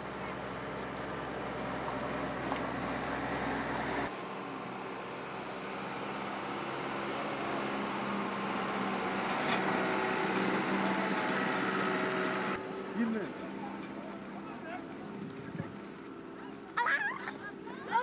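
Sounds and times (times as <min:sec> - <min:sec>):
vehicle engine running: 0:00.0 - 0:16.7.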